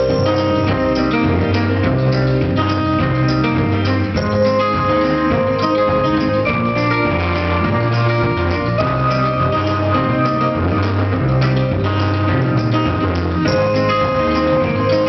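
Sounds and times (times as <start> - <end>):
rock music with guitar and drums: 0.0 - 15.0.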